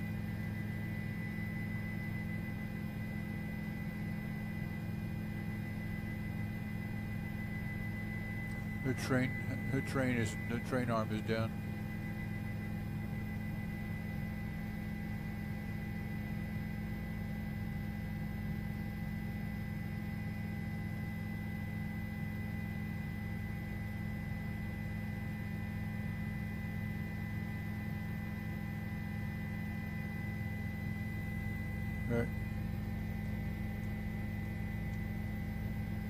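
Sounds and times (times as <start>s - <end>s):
helicopter cabin drone: 0.0s - 36.0s.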